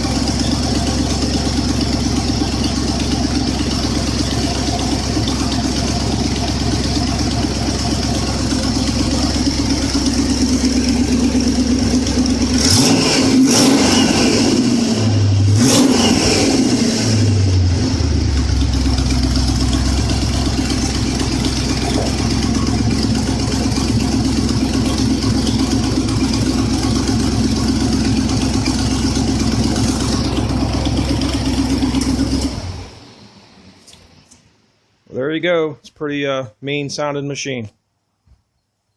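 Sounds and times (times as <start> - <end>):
engine idling and revving: 0.0 - 34.4.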